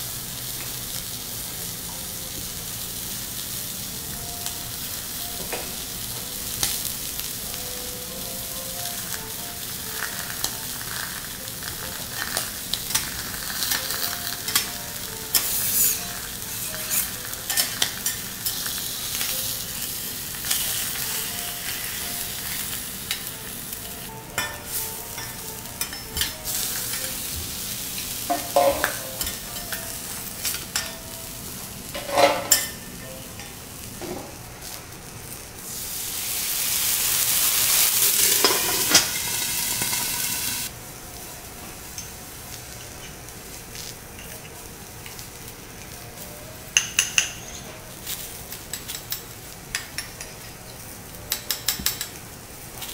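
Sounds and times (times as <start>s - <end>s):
shellfish sizzling on griddle: 0.0s - 52.9s.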